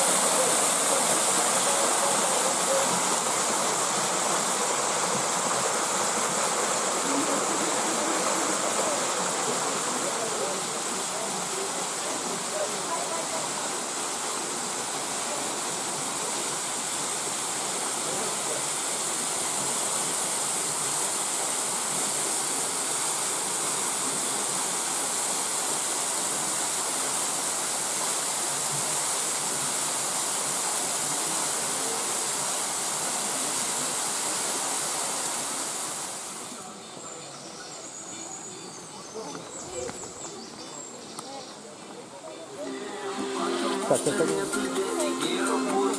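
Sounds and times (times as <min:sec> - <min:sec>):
waterfall rushing: 0:00.0 - 0:37.2, 0:42.4 - 0:45.9.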